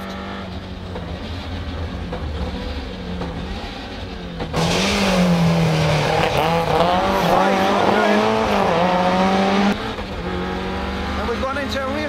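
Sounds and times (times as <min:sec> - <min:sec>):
rally car engine: 0:00.0 - 0:12.0.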